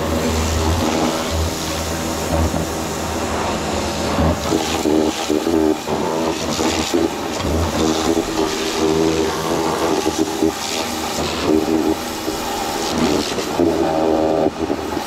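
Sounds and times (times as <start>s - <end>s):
motor hum: 0.0s - 15.0s
pressure washer water jet hiss: 0.0s - 15.0s.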